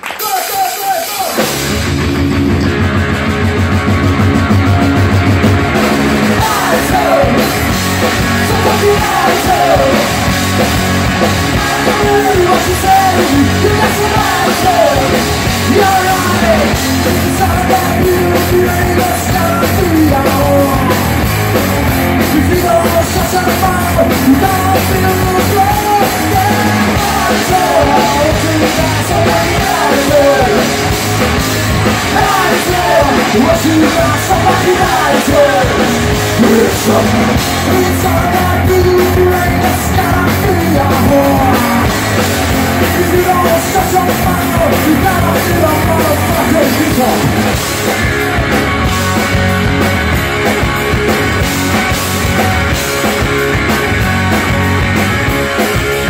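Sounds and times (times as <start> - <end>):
drum kit: 0.0 - 56.0
melodic lead line: 1.1 - 56.0
electric guitars: 1.4 - 56.0.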